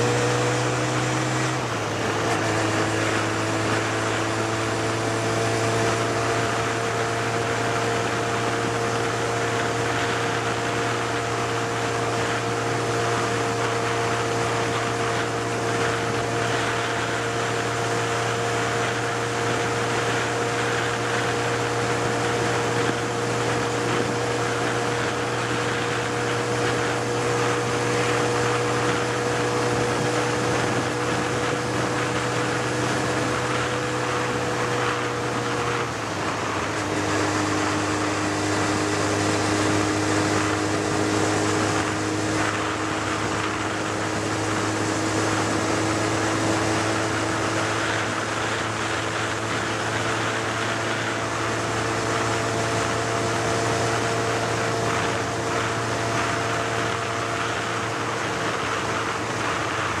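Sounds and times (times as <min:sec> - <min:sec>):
tyre and wind noise: 0:00.0 - 1:00.0
vehicle engine running: 0:00.0 - 1:00.0.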